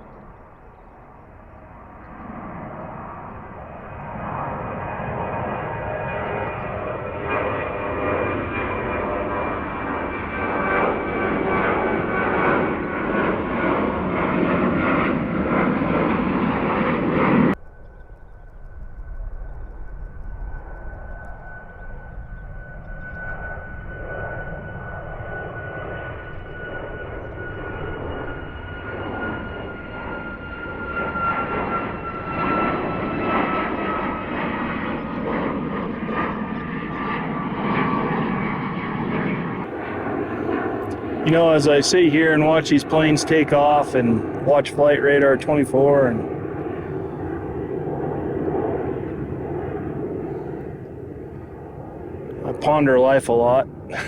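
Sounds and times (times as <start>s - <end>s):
departing jet engine whine: 0.0s - 54.0s
jet engines roaring: 0.0s - 54.0s.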